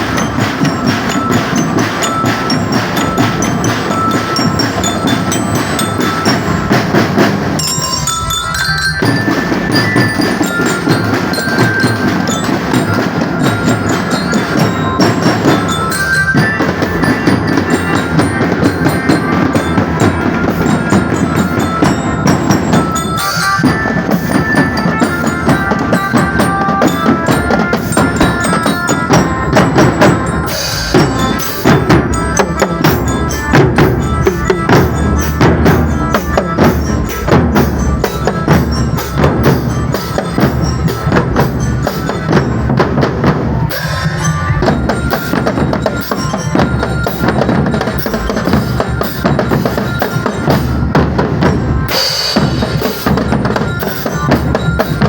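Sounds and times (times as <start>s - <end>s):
bell lyra melody: 0.0s - 55.0s
marching drums beat: 0.0s - 55.0s.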